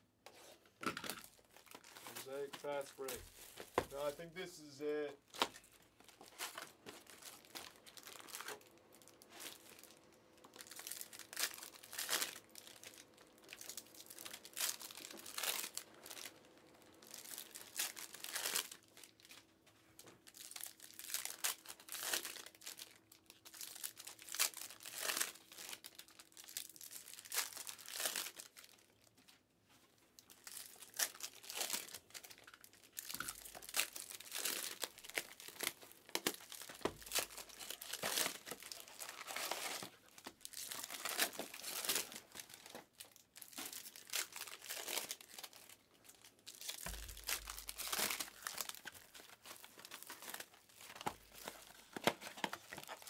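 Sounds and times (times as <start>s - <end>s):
plastic wrapping crinkling and ripping: 1.0s - 29.2s, 30.1s - 53.0s.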